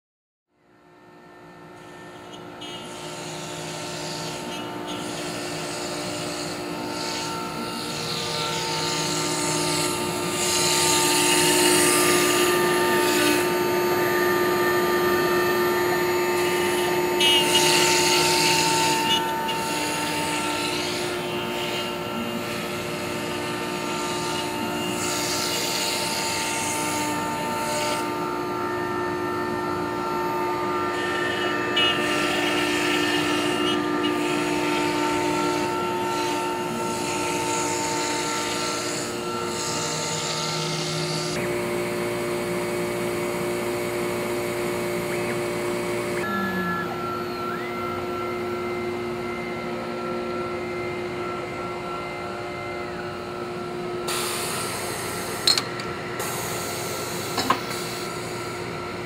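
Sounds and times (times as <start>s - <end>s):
machine whine: 0.5s - 59.0s.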